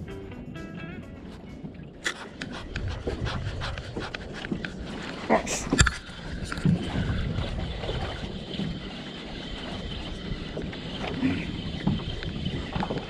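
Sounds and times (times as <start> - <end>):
wind buffeting microphone: 0.0 - 13.0
water washing around boat: 1.1 - 13.0.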